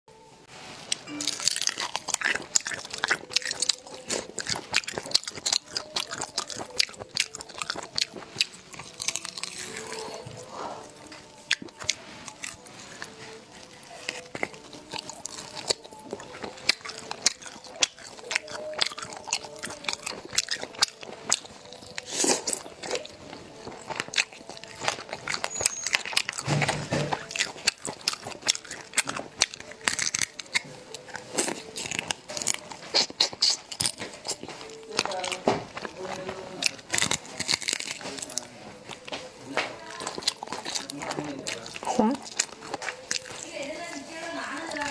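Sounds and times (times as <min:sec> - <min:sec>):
wet biting and chewing: 0:00.9 - 0:44.9.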